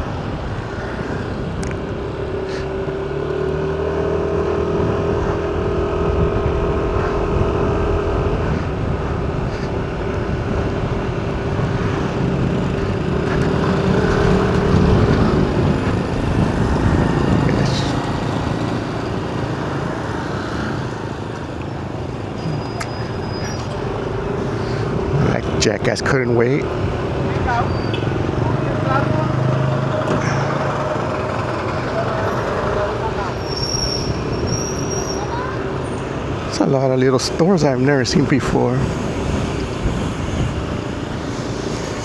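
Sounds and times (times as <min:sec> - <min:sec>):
engine drone: 0:00.0 - 0:26.7, 0:27.7 - 0:42.0
car engine and road noise: 0:00.0 - 0:42.0.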